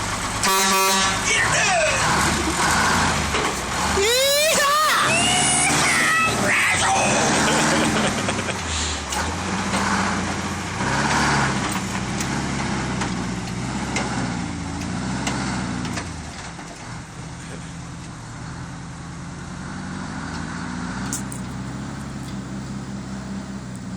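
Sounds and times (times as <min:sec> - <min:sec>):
dump truck engine running: 0:00.0 - 0:23.9.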